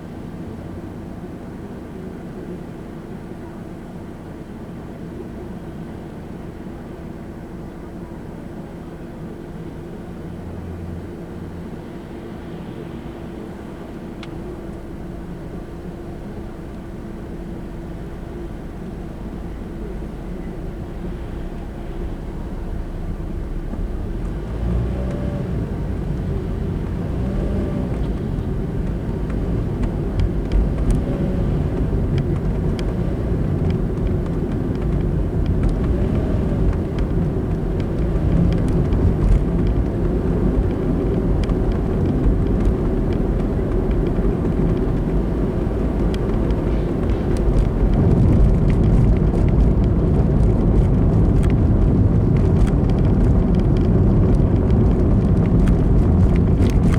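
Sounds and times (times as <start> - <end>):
car engine and tyre road noise: 0.0 - 56.9.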